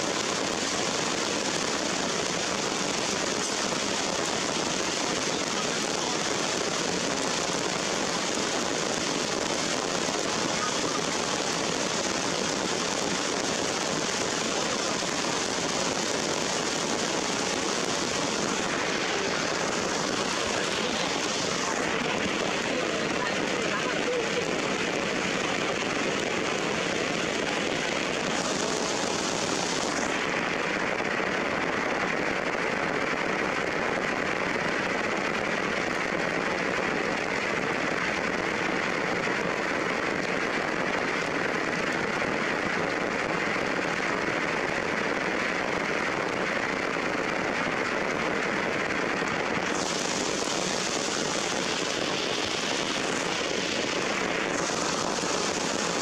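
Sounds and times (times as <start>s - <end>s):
heavy rain on leaves and rocks: 0.0s - 56.0s.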